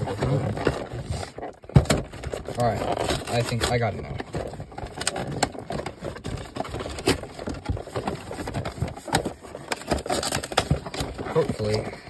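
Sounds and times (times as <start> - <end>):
cardboard box scraping and clicking: 0.0 - 12.0.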